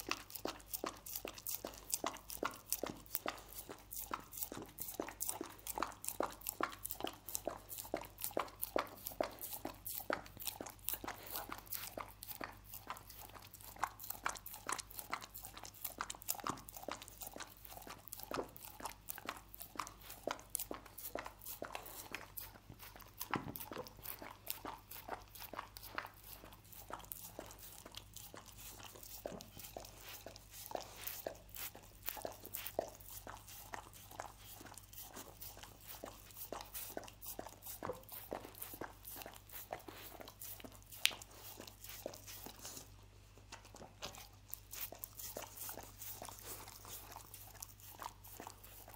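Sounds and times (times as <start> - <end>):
dog tongue lapping and smacking: 0.0 - 48.9.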